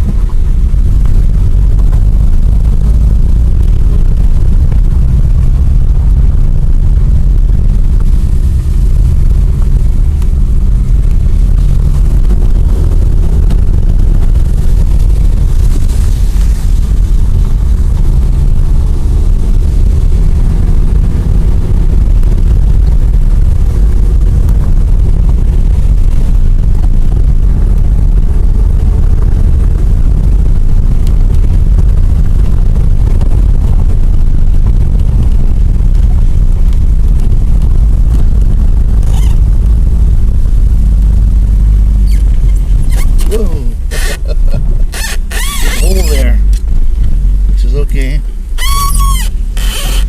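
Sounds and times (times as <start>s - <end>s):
engine and road rumble: 0.0s - 50.0s
faint engine hum: 0.0s - 50.0s.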